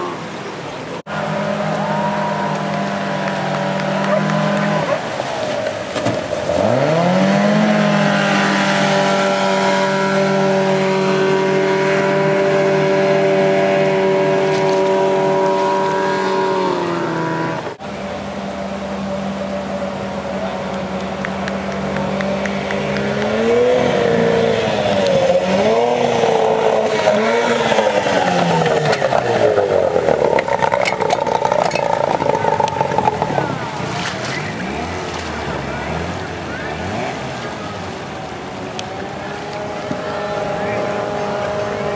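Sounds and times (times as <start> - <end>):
rushing water: 0.0 - 41.9
outboard motor revving: 1.0 - 41.9.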